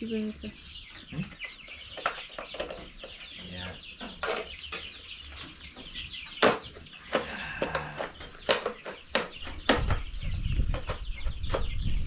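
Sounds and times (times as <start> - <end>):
chicks peeping and clucking: 0.0 - 12.0.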